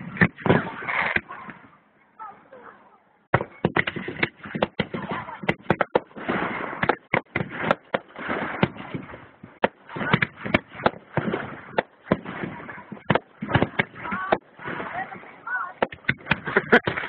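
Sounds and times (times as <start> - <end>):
fireworks bangs: 0.0 - 1.9, 3.2 - 17.0
fireworks rumble: 0.0 - 17.0.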